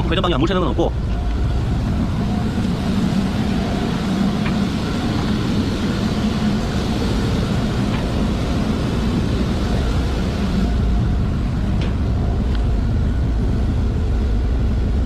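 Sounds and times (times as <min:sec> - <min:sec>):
water pump running: 0:00.0 - 0:15.0.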